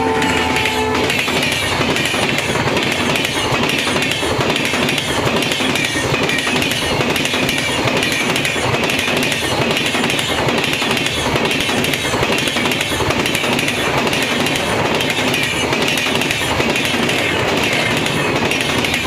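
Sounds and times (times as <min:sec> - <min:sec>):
train rushing past: 0:00.0 - 0:19.0
wheels clattering over rail joints: 0:00.0 - 0:19.0.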